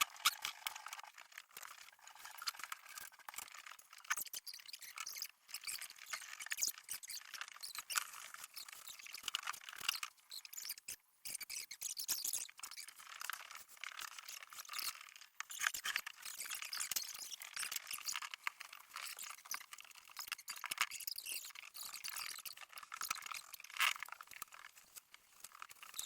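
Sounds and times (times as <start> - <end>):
rapid high-pitched clicking and clattering: 0.0 - 26.0.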